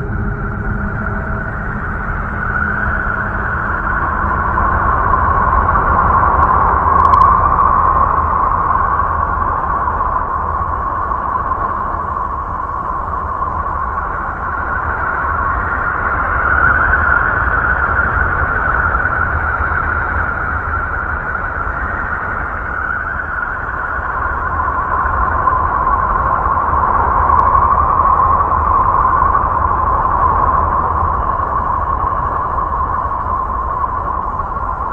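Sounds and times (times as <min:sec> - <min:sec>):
noisy space drone: 0:00.0 - 0:34.9.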